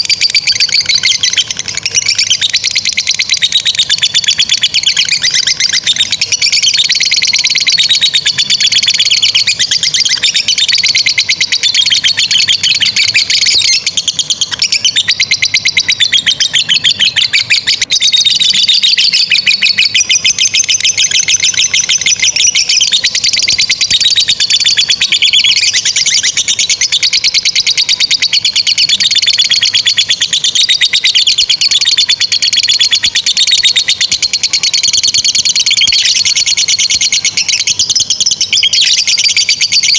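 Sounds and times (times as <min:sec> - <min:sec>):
lovebirds chattering trills: 0:00.0 - 0:39.9.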